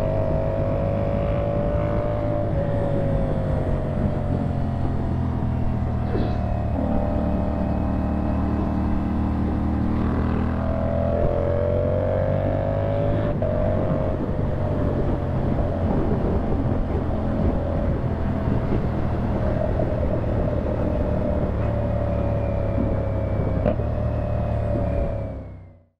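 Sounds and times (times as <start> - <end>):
motorcycle engine running: 0.0 - 25.1.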